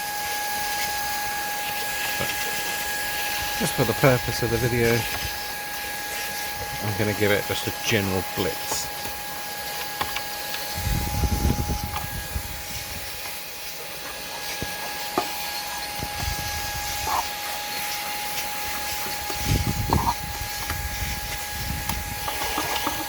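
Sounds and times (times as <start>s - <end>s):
cordless vacuum whining: 0.0s - 23.0s.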